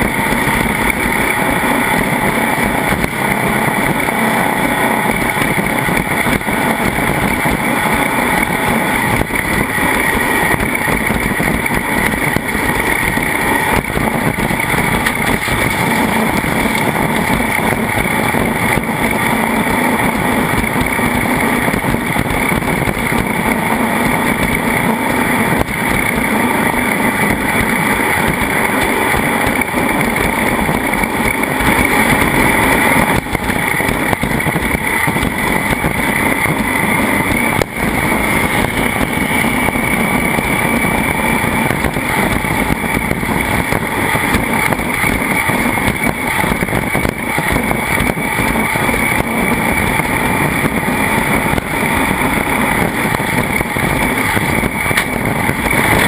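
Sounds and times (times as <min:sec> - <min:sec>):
racing vehicle engine at speed: 0:00.0 - 0:56.0.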